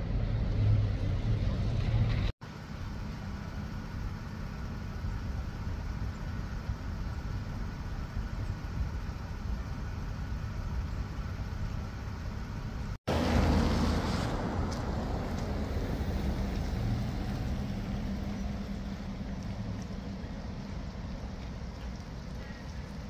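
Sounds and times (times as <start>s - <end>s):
low outdoor rumble: 0.0s - 23.0s
vehicle engine running: 0.0s - 23.0s.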